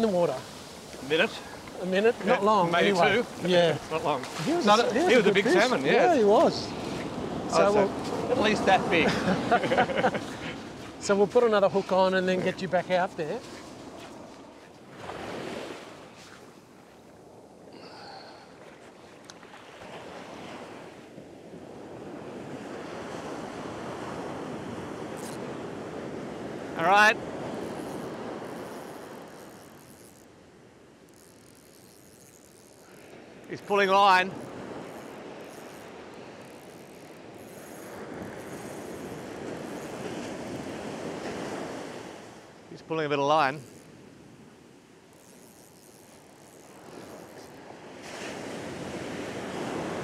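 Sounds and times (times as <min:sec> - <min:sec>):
surf washing up a beach: 0:00.0 - 0:31.1, 0:32.8 - 0:45.1, 0:46.2 - 0:50.0
small waves breaking on sand: 0:00.0 - 0:50.0.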